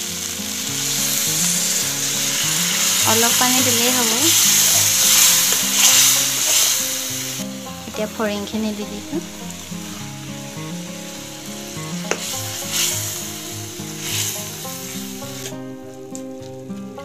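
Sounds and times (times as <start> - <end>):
food sizzling in pan: 0.0 - 17.0.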